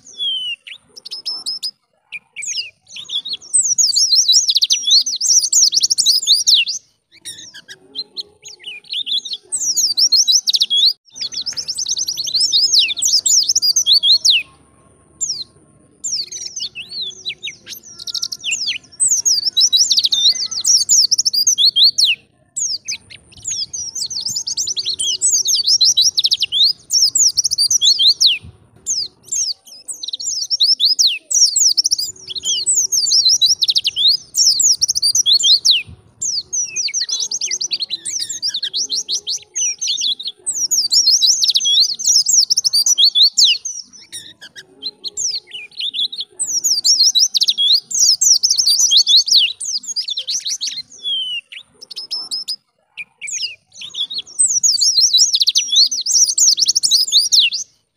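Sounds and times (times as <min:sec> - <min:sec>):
bird chirps and trills: 0:00.0 - 0:57.9.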